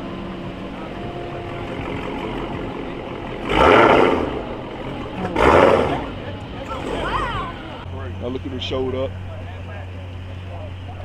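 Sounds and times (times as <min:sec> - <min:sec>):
car engine revving: 0:00.0 - 0:11.0
cars idling: 0:00.0 - 0:11.0.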